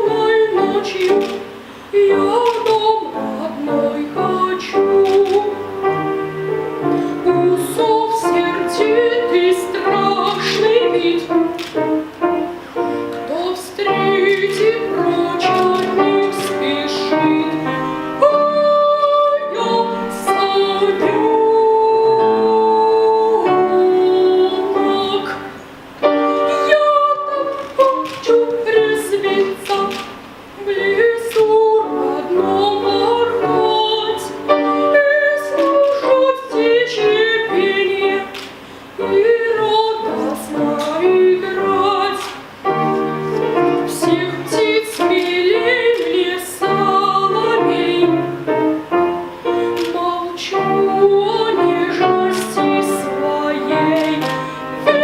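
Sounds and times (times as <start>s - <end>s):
piano accompaniment: 0.0s - 55.0s
women singing with vibrato: 0.0s - 55.0s.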